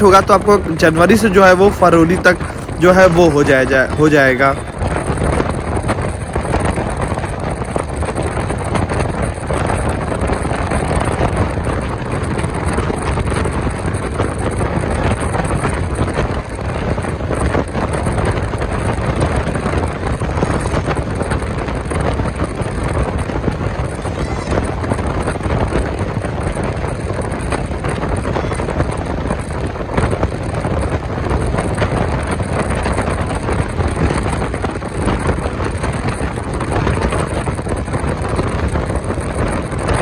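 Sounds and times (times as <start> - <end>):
train wheels rumbling on rails: 0.0 - 40.0
wind on microphone: 0.0 - 40.0.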